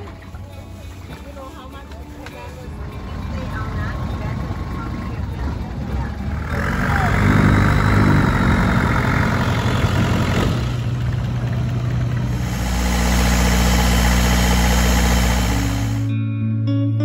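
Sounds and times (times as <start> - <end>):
wind: 0.0 - 16.1
boat engine drone: 2.5 - 16.2.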